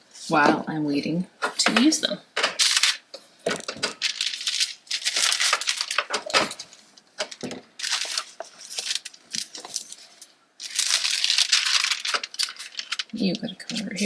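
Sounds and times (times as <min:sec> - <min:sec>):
paper rustling and crinkling: 0:02.4 - 0:14.0.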